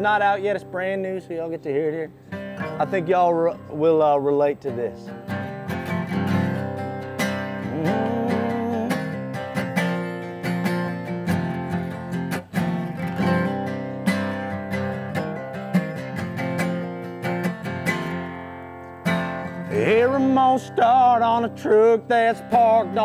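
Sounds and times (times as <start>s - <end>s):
acoustic guitar strummed: 0.0s - 23.0s.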